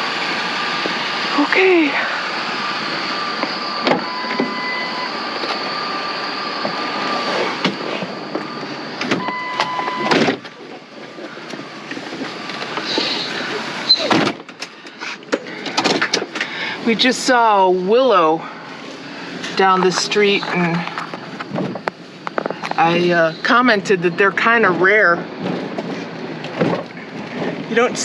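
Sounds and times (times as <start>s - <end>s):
road and engine noise in vehicle: 0.0s - 28.0s.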